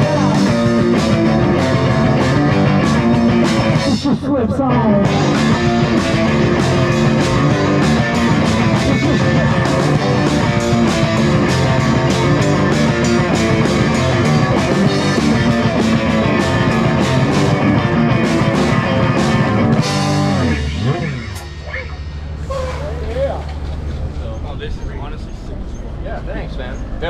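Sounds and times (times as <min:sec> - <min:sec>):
steady drum beat: 0:00.0 - 0:23.4
rock band guitar: 0:00.0 - 0:24.2.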